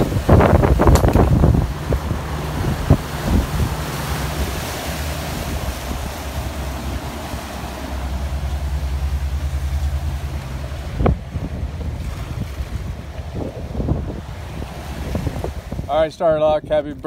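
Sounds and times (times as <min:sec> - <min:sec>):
water rushing past hull: 0:00.0 - 0:16.7
motorboat engine running: 0:00.0 - 0:17.0
wind buffeting microphone: 0:00.0 - 0:17.0.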